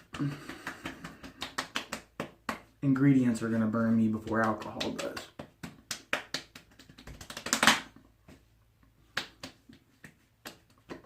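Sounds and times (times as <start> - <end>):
light pats on skin: 0.0 - 2.8, 3.4 - 11.0.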